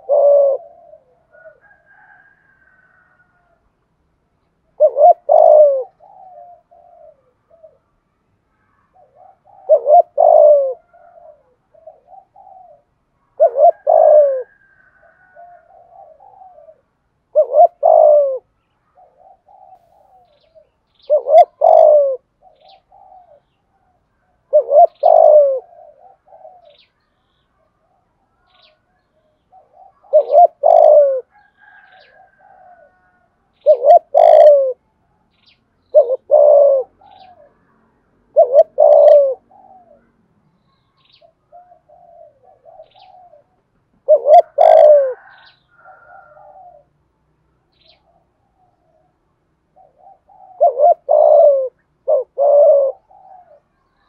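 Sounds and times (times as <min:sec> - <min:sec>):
dove cooing: 0:00.0 - 0:03.7, 0:04.6 - 0:08.0, 0:08.6 - 0:27.0, 0:27.6 - 0:40.2, 0:41.0 - 0:47.0, 0:47.7 - 0:54.0.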